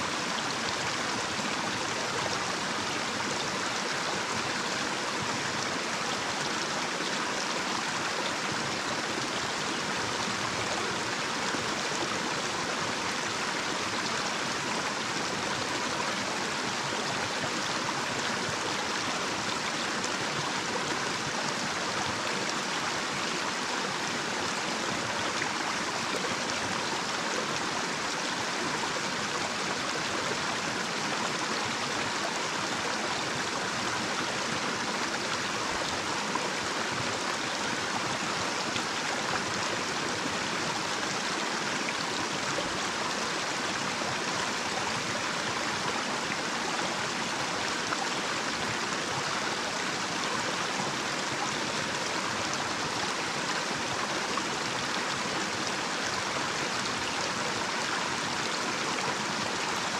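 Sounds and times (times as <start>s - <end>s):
stream water rushing over cascade: 0.0s - 59.9s.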